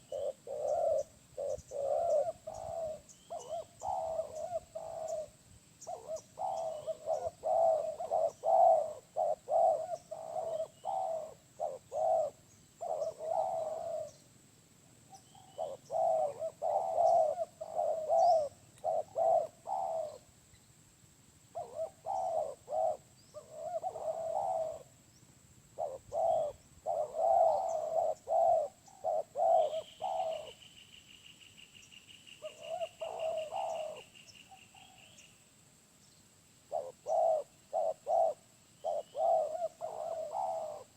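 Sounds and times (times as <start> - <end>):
dove cooing: 0.0 - 14.2, 15.0 - 20.3, 21.5 - 25.0, 25.8 - 30.6, 32.4 - 35.2, 36.7 - 40.9.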